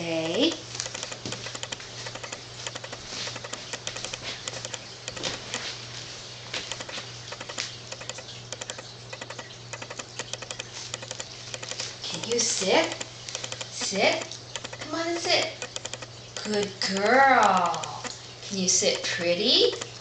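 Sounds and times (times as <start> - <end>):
light clicking and tapping: 0.1 - 5.7, 6.6 - 18.2, 18.8 - 20.0.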